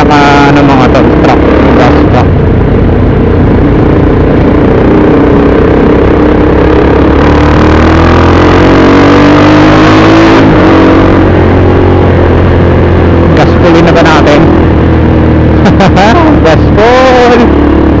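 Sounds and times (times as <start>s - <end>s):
motorcycle engine accelerating: 0.0s - 18.0s
wind and road noise: 0.0s - 18.0s.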